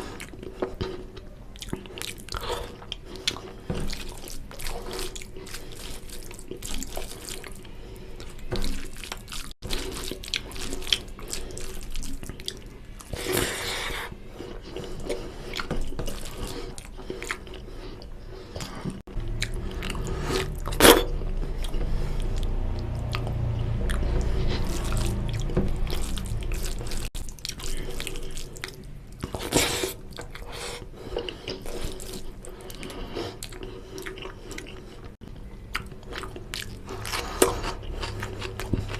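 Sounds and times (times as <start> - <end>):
chewing with wet squelches: 0.0 - 38.9.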